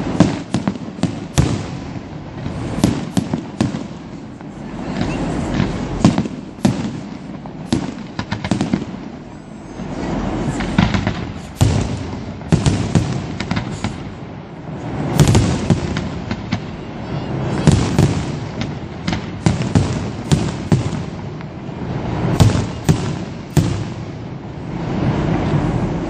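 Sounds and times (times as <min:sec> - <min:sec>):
firework shells bursting: 0:00.0 - 0:16.8, 0:17.5 - 0:24.3.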